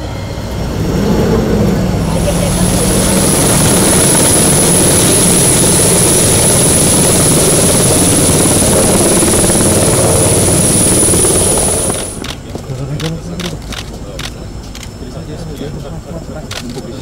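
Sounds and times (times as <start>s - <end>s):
helicopter rotors: 0.0s - 17.0s
turbine engine whine: 0.0s - 17.0s.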